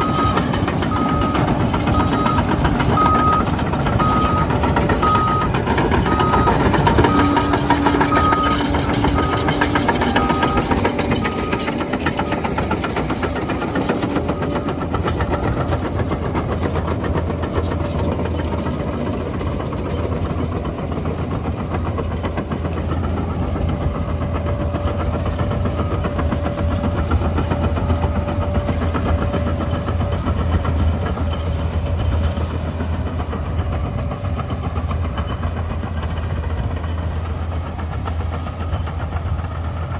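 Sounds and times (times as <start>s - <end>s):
reversing alarm beeping: 0.0s - 35.9s
diesel engine rumbling: 0.0s - 39.9s.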